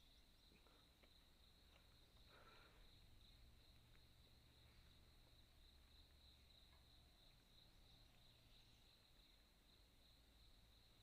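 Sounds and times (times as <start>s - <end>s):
forest insects droning: 0.0s - 11.0s.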